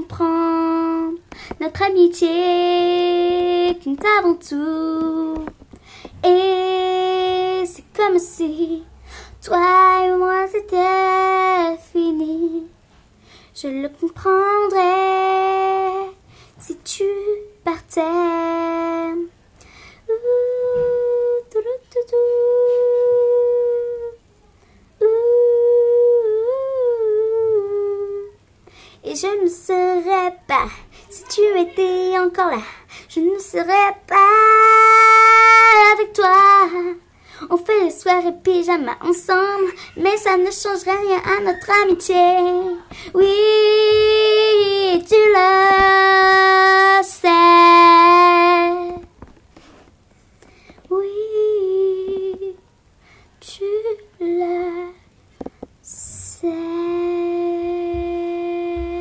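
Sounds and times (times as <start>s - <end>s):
girl singing unaccompanied: 0.0s - 12.8s, 13.5s - 49.4s, 50.6s - 59.0s.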